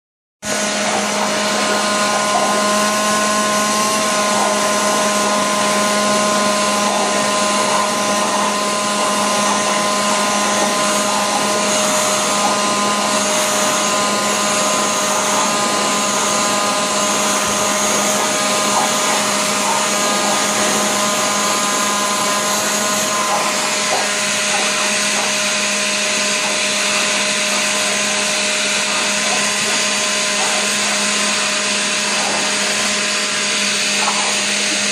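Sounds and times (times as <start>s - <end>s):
electric blower running: 0.4s - 34.9s.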